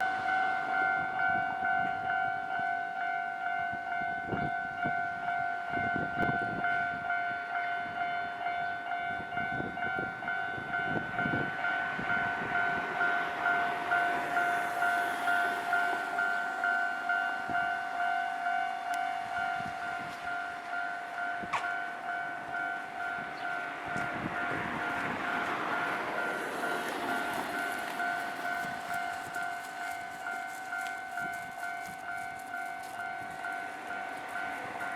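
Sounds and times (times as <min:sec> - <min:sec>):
level-crossing bell ringing: 0:00.0 - 0:34.9
train passing: 0:00.0 - 0:34.9.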